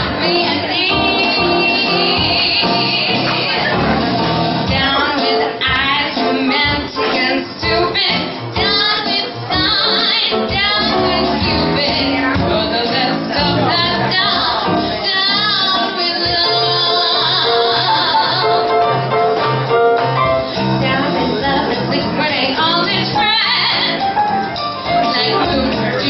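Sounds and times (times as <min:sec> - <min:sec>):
woman singing into microphone: 0:00.0 - 0:03.7, 0:04.7 - 0:19.0, 0:20.8 - 0:24.1, 0:24.9 - 0:26.0
electric piano: 0:00.0 - 0:26.0.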